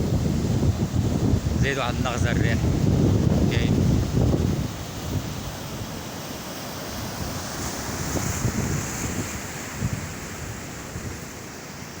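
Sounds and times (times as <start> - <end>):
wind buffeting microphone: 0.0 - 11.6
sea surf washing ashore: 0.0 - 12.0.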